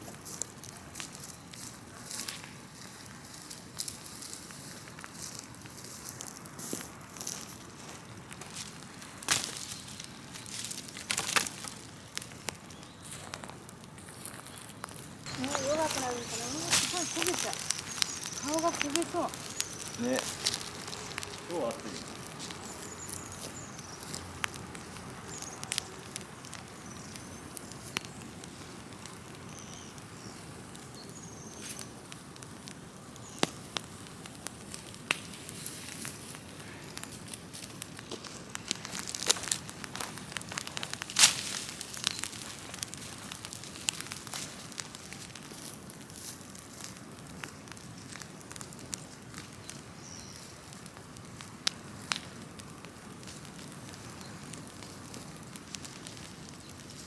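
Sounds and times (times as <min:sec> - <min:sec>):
bonfire flames rushing: 0:00.0 - 0:57.0
fire crackling and popping: 0:00.0 - 0:57.0.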